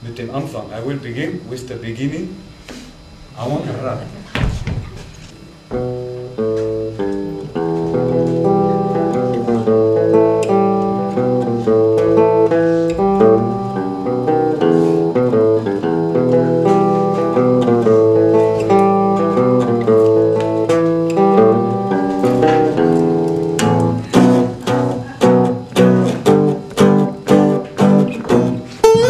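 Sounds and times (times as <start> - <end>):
guitar picking: 5.6 - 29.0.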